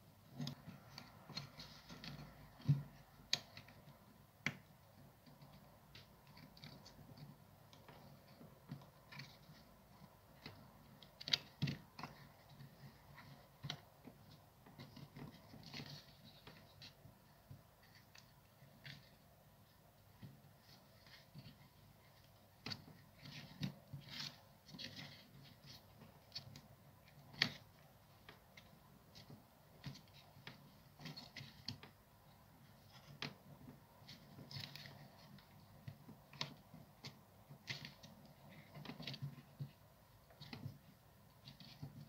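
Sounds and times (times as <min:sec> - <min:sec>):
clicks and rustles of plastic parts: 0:00.2 - 0:42.0.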